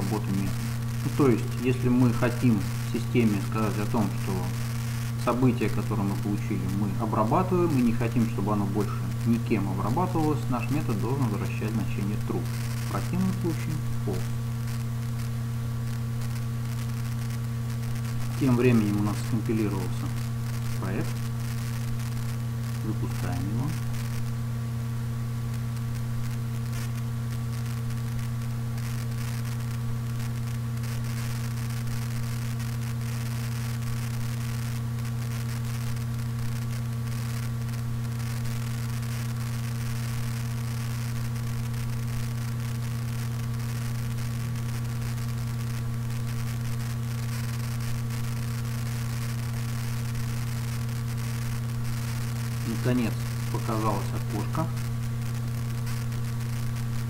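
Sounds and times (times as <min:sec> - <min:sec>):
electrical hum: 0:00.0 - 0:57.0
static crackle: 0:00.0 - 0:57.0.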